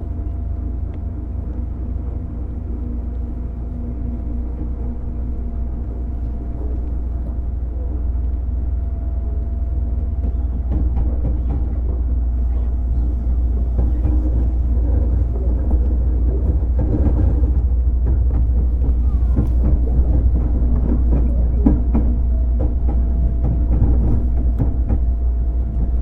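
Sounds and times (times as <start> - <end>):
faint steady hum: 0.0 - 26.0
train motors and wheels rumbling: 0.0 - 26.0.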